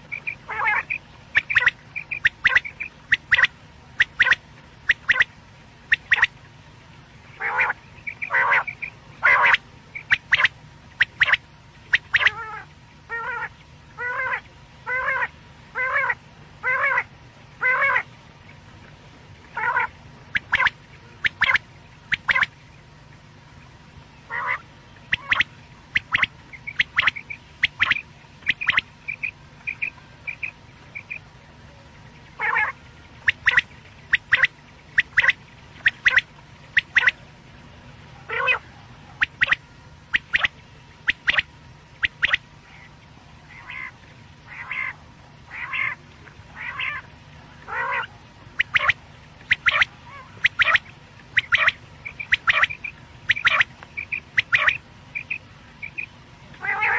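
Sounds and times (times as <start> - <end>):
quail calls: 0.0 - 5.3, 5.9 - 6.3, 7.4 - 18.1, 19.5 - 22.5, 24.3 - 31.2, 32.4 - 37.2, 38.3 - 42.9, 43.5 - 56.9.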